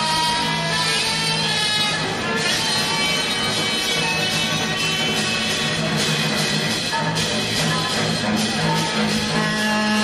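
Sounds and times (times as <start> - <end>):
busy drumming: 0.0 - 10.0
free jazz band playing: 0.0 - 10.0.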